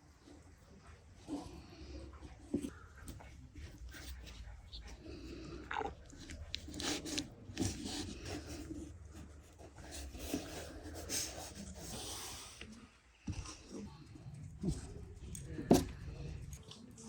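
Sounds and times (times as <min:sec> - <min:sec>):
rubbing and scraping: 0:00.0 - 0:16.9.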